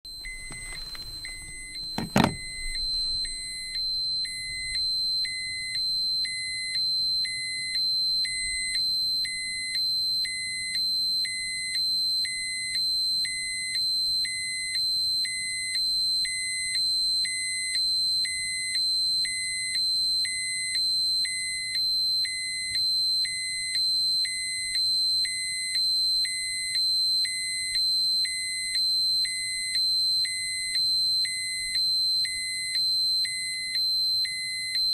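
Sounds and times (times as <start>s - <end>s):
high steady alarm whine: 0.1s - 34.9s
pulsing alarm beep: 0.1s - 34.9s.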